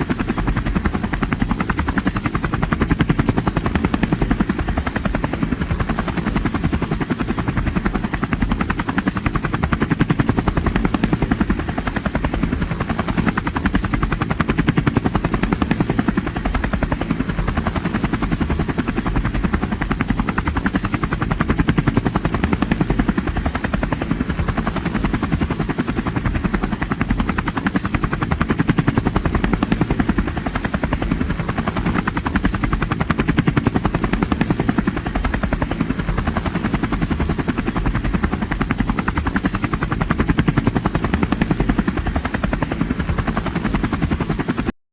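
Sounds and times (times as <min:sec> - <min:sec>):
helicopter rotor and engine drone: 0:00.0 - 0:44.8.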